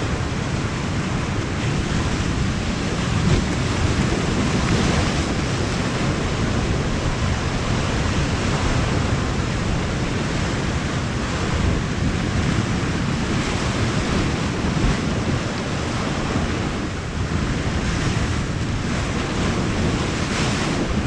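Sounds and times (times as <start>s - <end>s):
sea surf on rocks: 0.0s - 21.0s
wind buffeting microphone: 0.0s - 21.0s.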